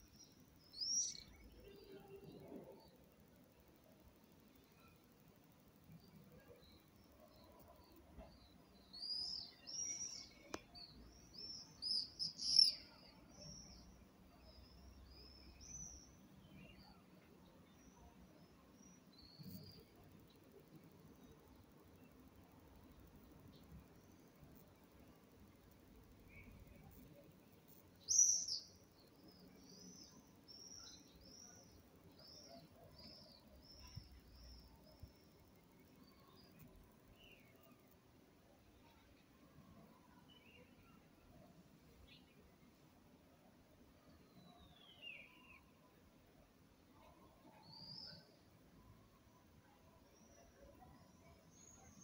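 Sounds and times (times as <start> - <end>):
songbird chirping: 0.0 - 52.0.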